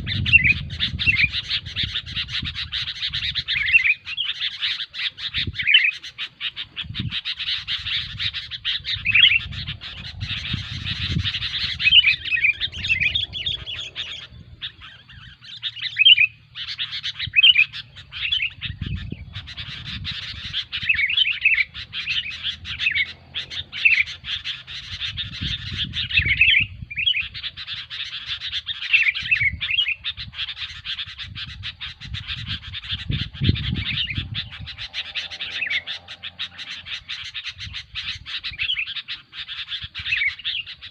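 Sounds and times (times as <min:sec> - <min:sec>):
birds chattering: 0:00.0 - 0:40.9.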